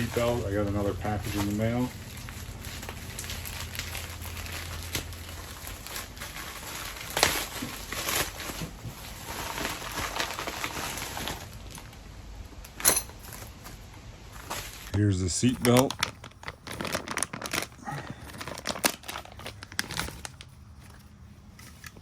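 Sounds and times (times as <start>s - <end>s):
packaging crinkling and rustling: 0.0s - 22.0s.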